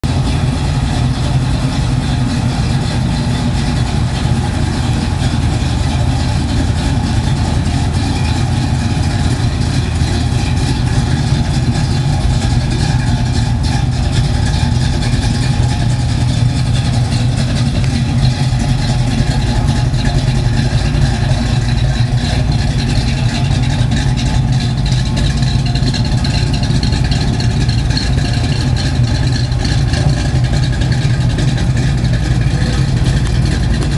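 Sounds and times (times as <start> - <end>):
car engines idling: 0.0 - 33.9.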